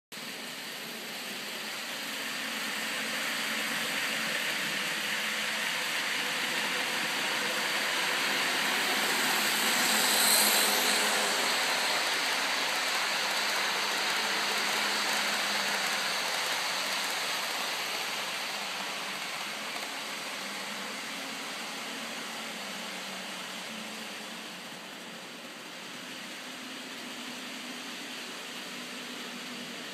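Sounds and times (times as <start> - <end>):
model train wheels on rail: 0.2 - 29.9.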